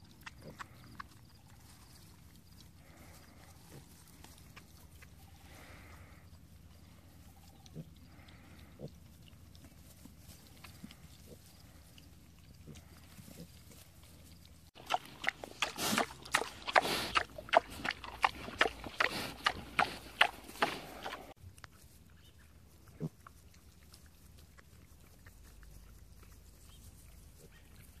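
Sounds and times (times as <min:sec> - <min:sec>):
pig chewing with crunching clicks: 0:00.0 - 0:28.0
pig snuffling: 0:00.0 - 0:28.0.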